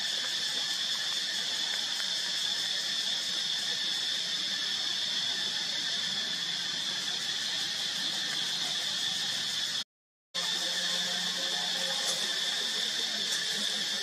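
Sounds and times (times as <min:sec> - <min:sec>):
insects droning: 0:00.0 - 0:09.8, 0:10.4 - 0:14.0.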